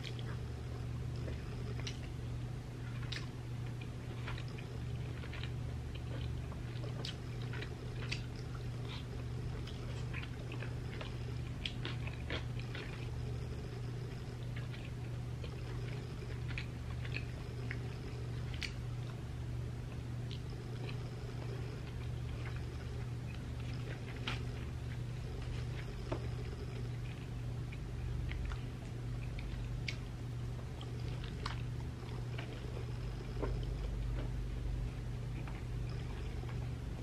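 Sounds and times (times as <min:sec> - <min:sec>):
chewing and wet mouth clicks: 0:00.0 - 0:02.2, 0:02.8 - 0:19.2, 0:19.9 - 0:36.7
low hum: 0:00.0 - 0:37.0.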